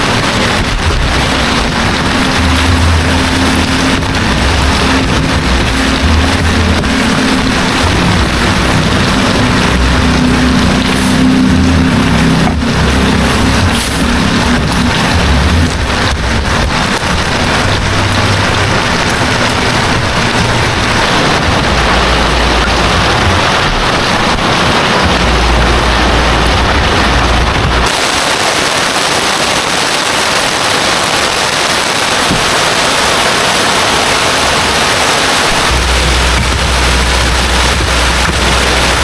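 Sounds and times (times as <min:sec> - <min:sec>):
low rumble: 0:00.0 - 0:28.1, 0:35.6 - 0:39.0
heavy rain falling: 0:00.0 - 0:39.0.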